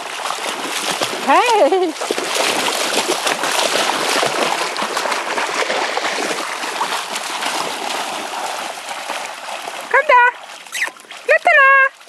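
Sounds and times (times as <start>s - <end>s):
puppies splashing in water: 0.0s - 12.0s.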